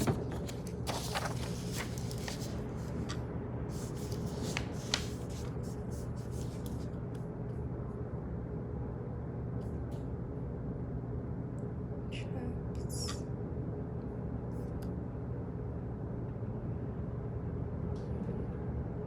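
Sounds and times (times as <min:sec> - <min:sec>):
low office hum: 0:00.0 - 0:19.0.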